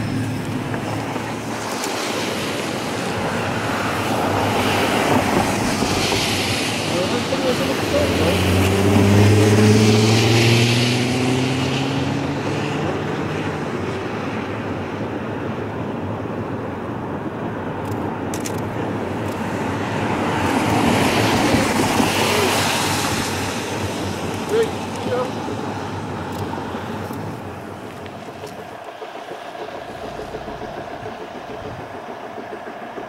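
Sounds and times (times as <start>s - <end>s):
train rumbling over bridge: 0.0s - 33.0s.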